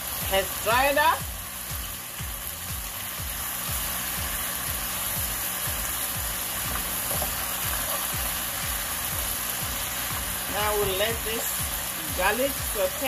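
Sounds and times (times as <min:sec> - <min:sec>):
background music with low beat: 0:00.0 - 0:13.0
food sizzling in oil: 0:00.0 - 0:13.0.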